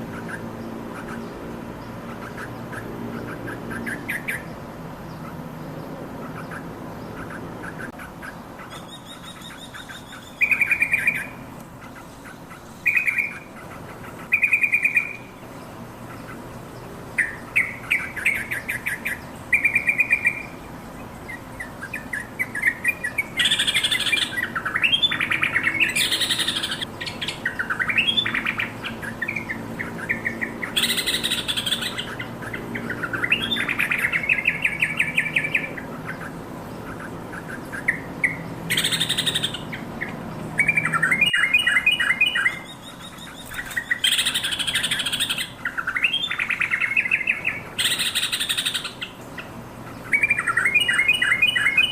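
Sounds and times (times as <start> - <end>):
bird singing bubbly chatter: 6.2 - 51.9.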